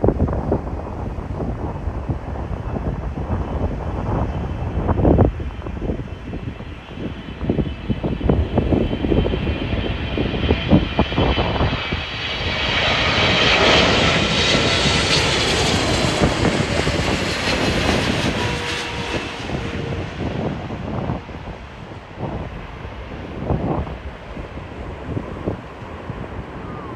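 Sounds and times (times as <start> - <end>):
jet airliner passing: 0.0 - 26.9
wind buffeting microphone: 0.0 - 26.9.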